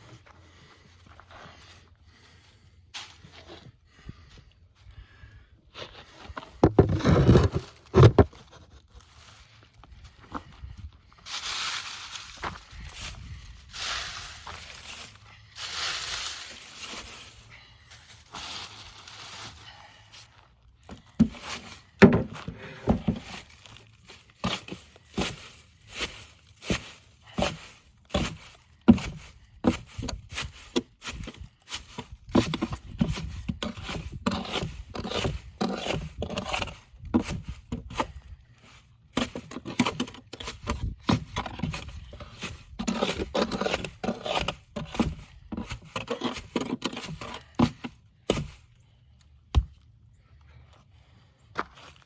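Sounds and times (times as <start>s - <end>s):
scraping and rustling work noises: 5.7s - 48.8s.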